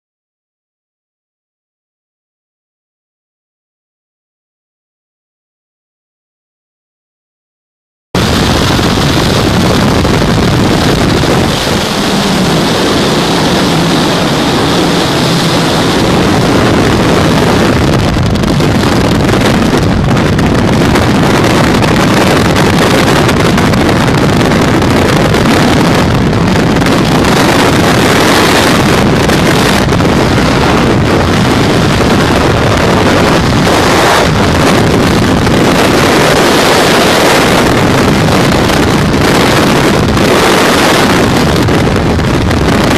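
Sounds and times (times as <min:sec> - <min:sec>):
wind buffeting microphone: 0:08.2 - 0:42.9.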